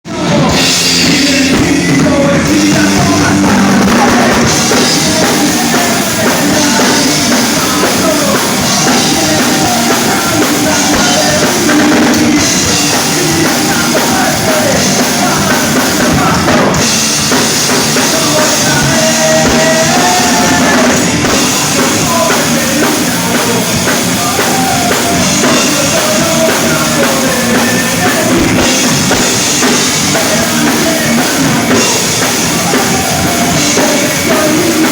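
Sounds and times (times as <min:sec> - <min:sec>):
rock band playing live: 0:00.0 - 0:34.9
drum kit beat: 0:00.1 - 0:34.9.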